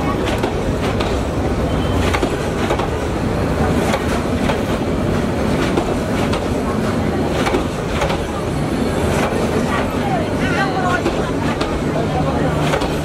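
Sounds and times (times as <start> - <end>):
train coaches rumbling past: 0.0 - 13.0
wheels clacking over rail joints: 0.0 - 13.0.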